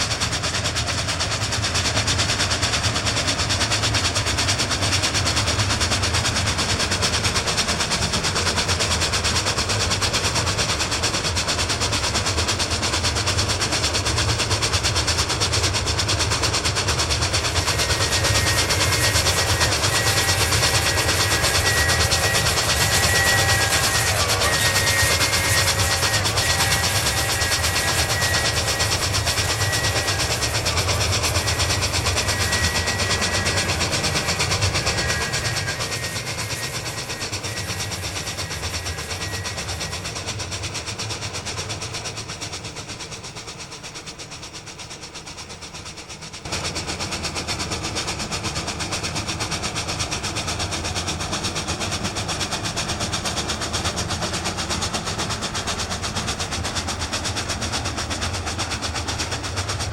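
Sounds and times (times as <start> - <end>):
steam locomotive exhaust beats: 0.0 - 59.9.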